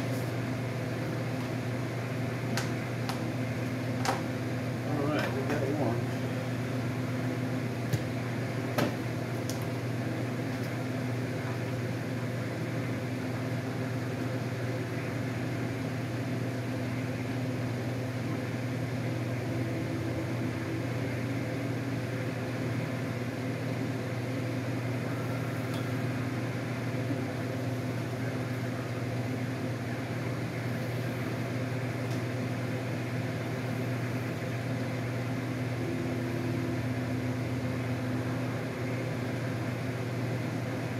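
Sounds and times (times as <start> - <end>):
machine hum: 0.0 - 40.9.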